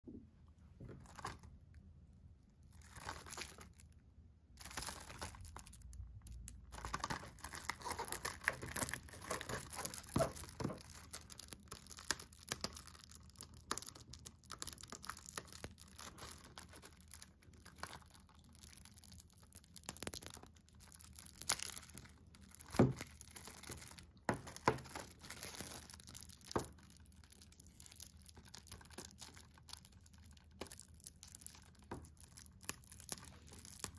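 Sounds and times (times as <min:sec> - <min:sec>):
plastic wrap crinkling: 0:00.8 - 0:01.7, 0:02.5 - 0:04.0, 0:04.6 - 0:33.9
plastic tearing: 0:02.7 - 0:03.9, 0:04.6 - 0:33.9.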